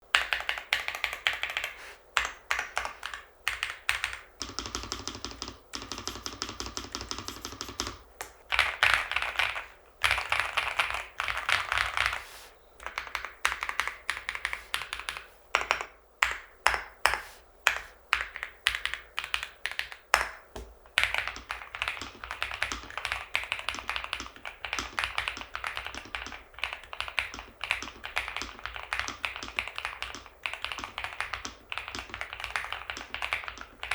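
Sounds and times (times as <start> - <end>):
typing on mechanical keyboard: 0.1 - 12.2, 12.8 - 33.9.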